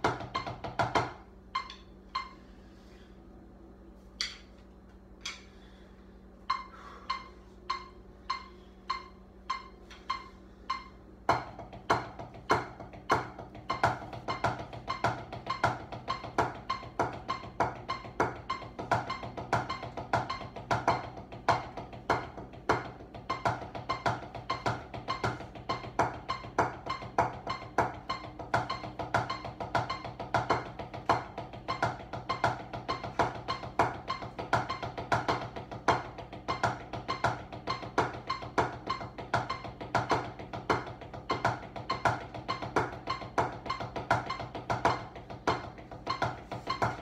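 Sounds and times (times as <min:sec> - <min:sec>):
drumsticks striking practice pad: 0:00.0 - 0:02.3, 0:04.2 - 0:04.6, 0:06.5 - 0:47.0.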